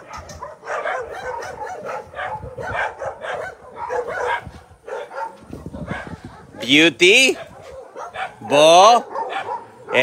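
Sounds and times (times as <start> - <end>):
dogs barking and yipping: 0.0 - 10.0.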